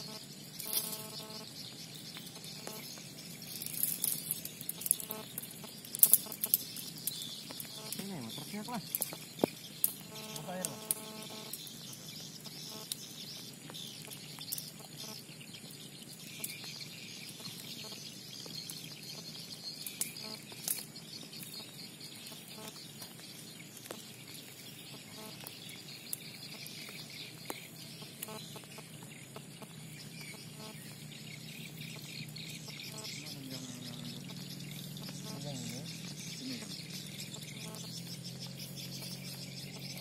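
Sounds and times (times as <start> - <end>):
steady high-pitched hiss: 0.0 - 40.0.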